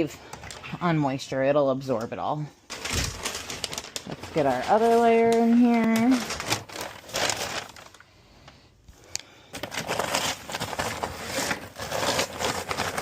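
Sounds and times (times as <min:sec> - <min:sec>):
paper bags rustling and crinkling: 0:02.1 - 0:13.0.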